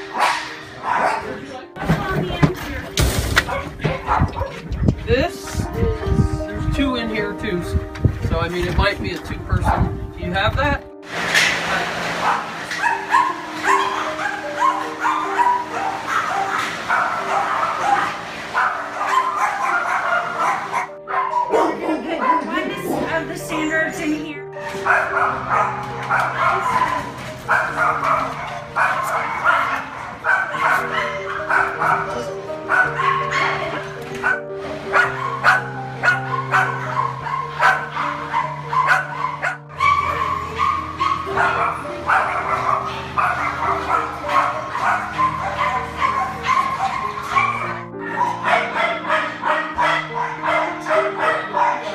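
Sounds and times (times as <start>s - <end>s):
dogs barking and yipping: 0.0s - 2.2s, 3.3s - 5.6s, 9.6s - 10.0s, 11.1s - 23.8s, 24.6s - 51.9s
background music with low notes: 0.0s - 51.9s.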